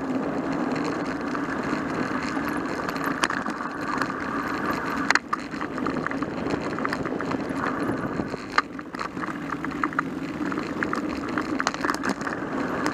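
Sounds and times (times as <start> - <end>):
bike rattling over bumps: 0.0 - 12.9
tyre and wind rush: 0.0 - 12.9.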